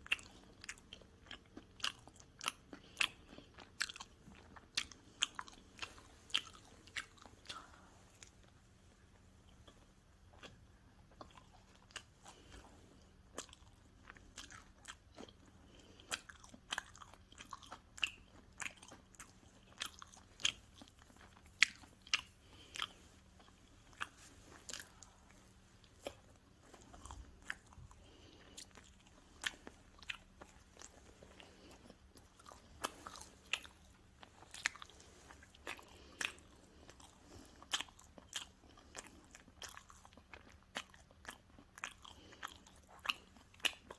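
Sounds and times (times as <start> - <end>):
chewing crunchy pizza: 0.0 - 43.9.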